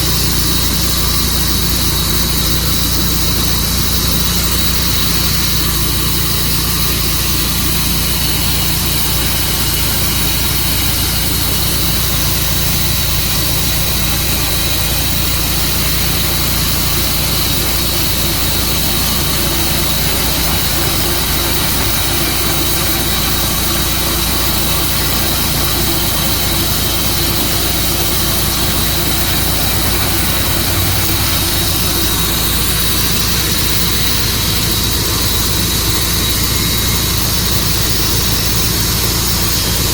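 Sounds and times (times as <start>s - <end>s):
band sawmill running: 0.0s - 39.9s
high whine of saw blade: 0.0s - 39.9s.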